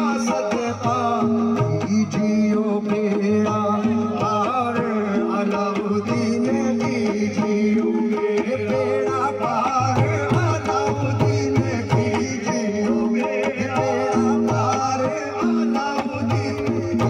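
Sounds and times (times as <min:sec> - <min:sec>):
hand drums beating: 0:00.0 - 0:17.0
harmonium notes: 0:00.0 - 0:17.0.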